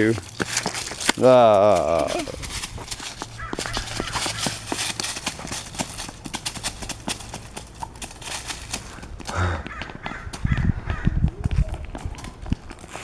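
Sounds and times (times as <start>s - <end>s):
dry leaves crunching: 0.0s - 11.0s.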